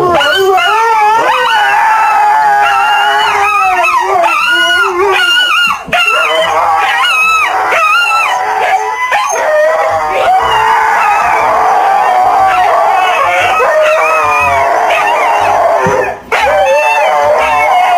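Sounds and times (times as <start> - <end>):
dog howling: 0.0 - 17.9.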